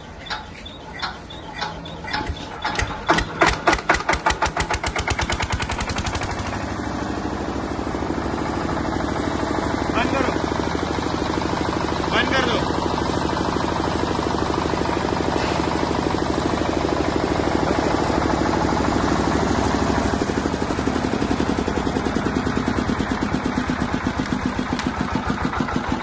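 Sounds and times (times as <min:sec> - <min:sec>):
diesel generator knocking: 0:00.0 - 0:26.0.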